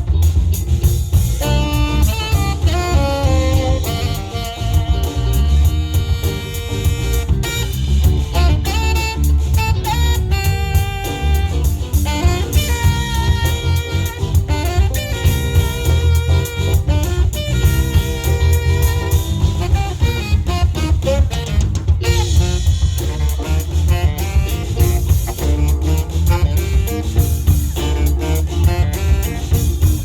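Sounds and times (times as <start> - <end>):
electric bass line: 0.0 - 30.0
funk band playing: 0.0 - 30.0
tenor saxophone sliding notes: 1.1 - 30.0.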